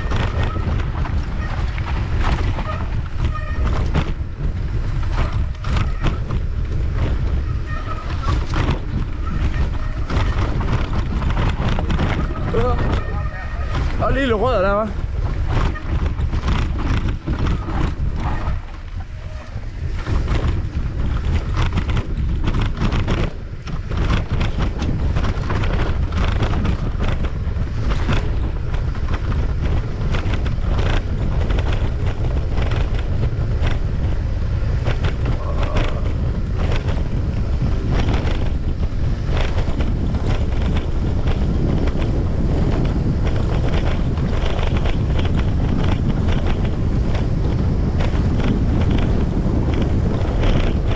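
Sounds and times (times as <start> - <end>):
bike knocking and rattling: 0.0 - 50.9
wind buffeting microphone: 0.0 - 50.9.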